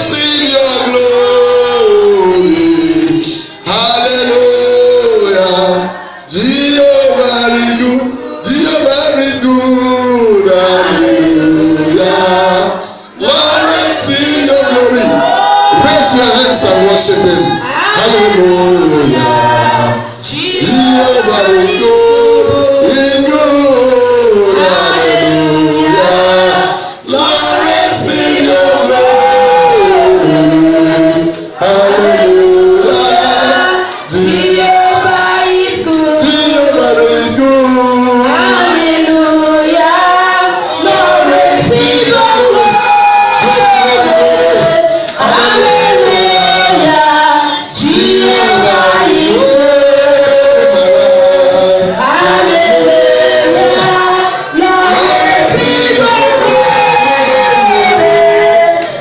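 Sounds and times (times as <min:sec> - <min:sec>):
group singing gospel chorus: 0:00.0 - 0:59.0.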